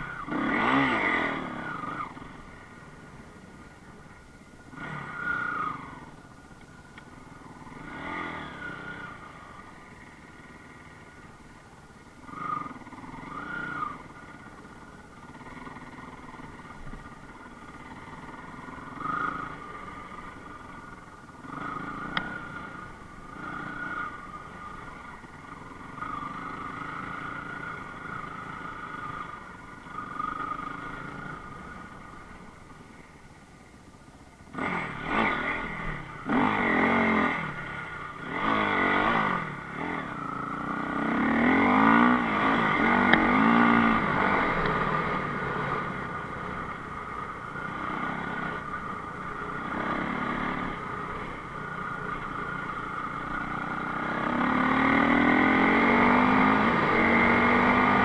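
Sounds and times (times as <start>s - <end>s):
motorcycle engine revving: 0.0s - 33.3s, 34.4s - 58.0s.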